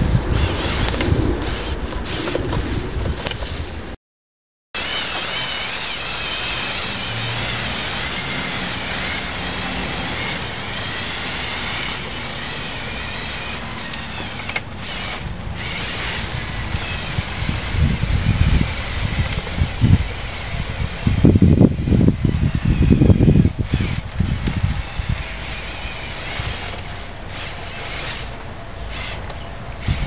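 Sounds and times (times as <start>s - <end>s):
toy truck motors whining: 0.3s - 3.7s, 4.8s - 30.0s.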